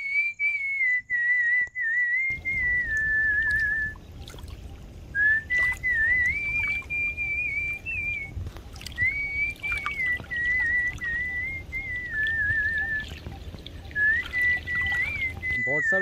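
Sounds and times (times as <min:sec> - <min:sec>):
person whistling a melody: 0:00.0 - 0:04.0, 0:05.2 - 0:16.0
low rumble: 0:02.3 - 0:15.6.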